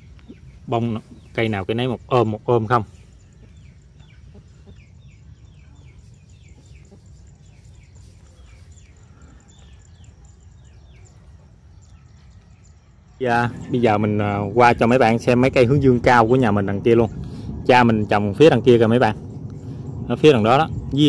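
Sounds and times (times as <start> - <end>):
faint low rumble: 0.0 - 21.0
small birds chirping: 0.0 - 21.0.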